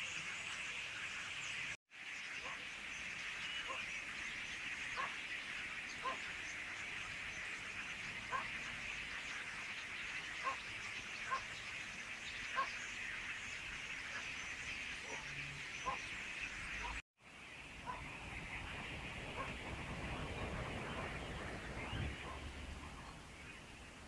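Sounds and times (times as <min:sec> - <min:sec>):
flock of starlings chattering: 0:00.0 - 0:24.0.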